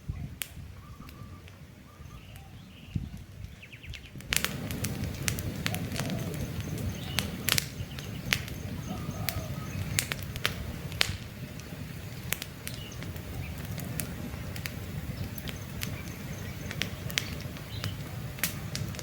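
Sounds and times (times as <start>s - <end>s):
faint bird calls: 0.0s - 18.8s
low rumble of flame: 0.0s - 19.0s
campfire crackling and popping: 0.2s - 19.0s.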